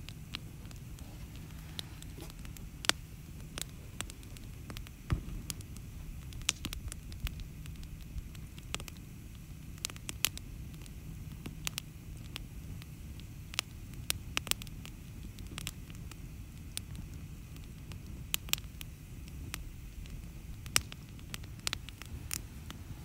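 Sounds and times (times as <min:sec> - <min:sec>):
campfire crackling: 0:00.0 - 0:23.0
low steady rumble: 0:00.0 - 0:23.0
sharp pops of fire: 0:00.0 - 0:23.0.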